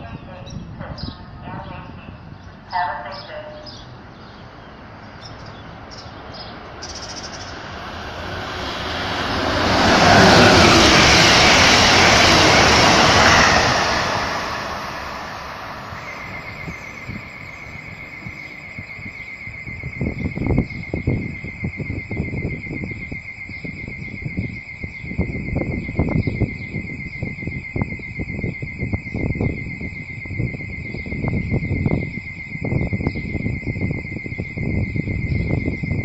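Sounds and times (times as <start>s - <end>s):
passenger train passing at speed: 0.0s - 28.2s, 28.8s - 36.0s
wavering high tone: 6.8s - 36.0s.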